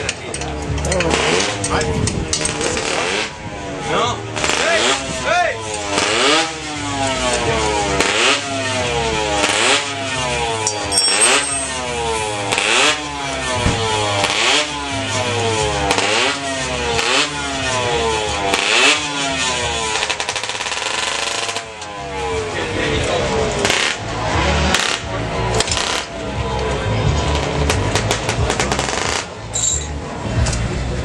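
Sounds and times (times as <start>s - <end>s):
two-stroke engine revving: 0.0s - 29.5s.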